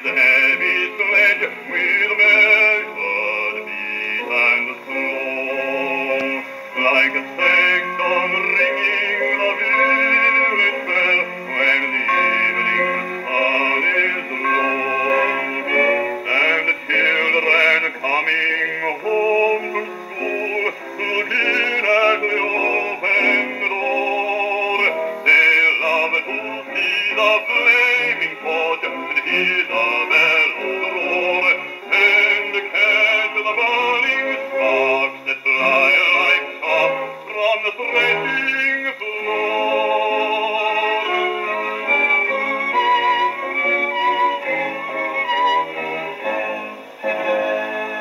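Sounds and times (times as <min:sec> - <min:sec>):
gramophone playing bass singer with quartet: 0:00.0 - 0:48.0.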